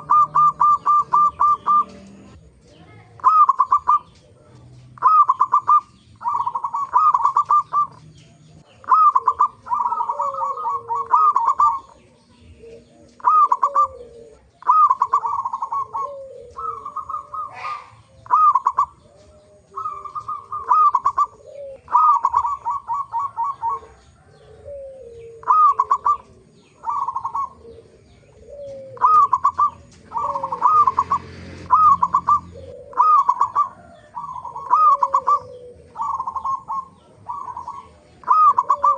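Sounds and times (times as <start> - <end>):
zebra doves cooing: 0.0 - 38.9.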